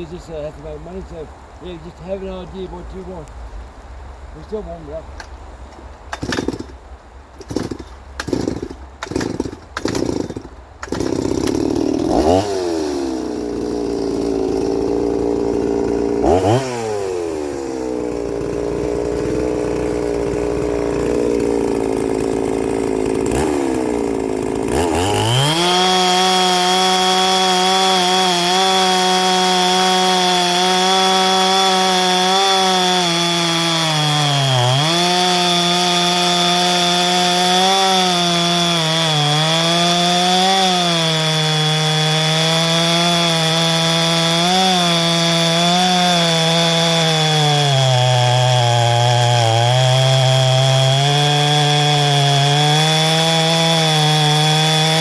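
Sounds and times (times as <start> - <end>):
chainsaw engine revving: 6.1 - 6.8, 7.4 - 55.0.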